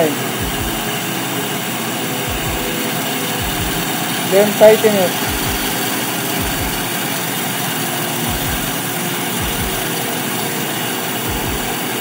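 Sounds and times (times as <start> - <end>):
band knife machine running: 0.0 - 12.0.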